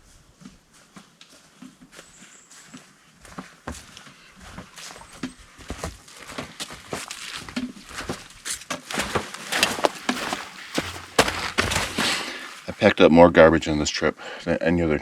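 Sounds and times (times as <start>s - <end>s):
footsteps on a trail: 0.0s - 12.8s.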